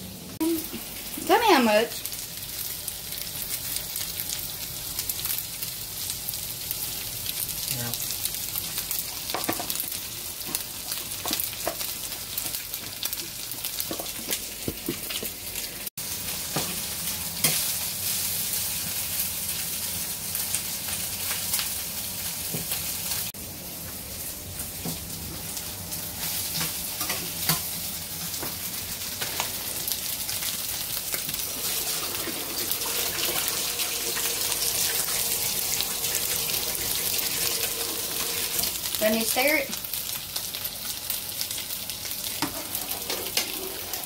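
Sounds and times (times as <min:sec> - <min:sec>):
chicken and onion sizzling in pan: 0:00.0 - 0:44.0.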